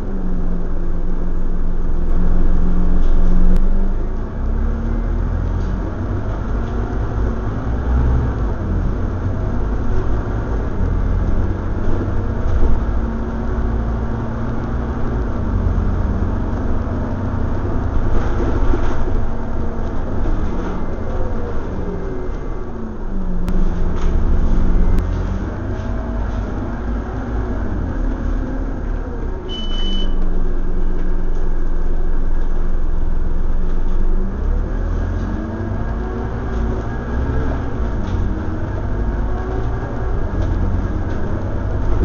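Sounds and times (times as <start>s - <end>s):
bus engine rumble: 0.0s - 42.0s
drivetrain whine: 0.0s - 42.0s.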